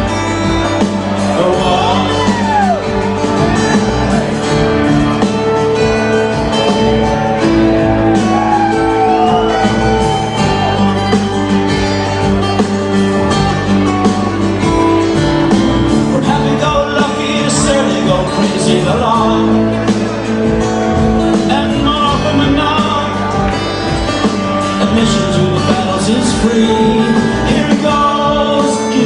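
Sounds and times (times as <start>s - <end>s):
electric guitar lines: 0.0s - 29.0s
rock band playing: 0.0s - 29.0s.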